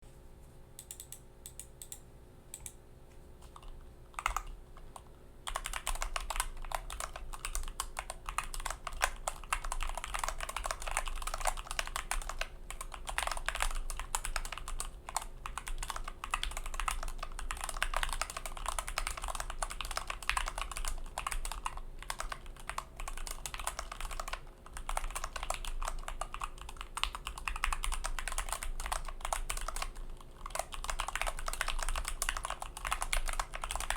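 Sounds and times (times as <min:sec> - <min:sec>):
keyboard typing: 0:03.4 - 0:33.9.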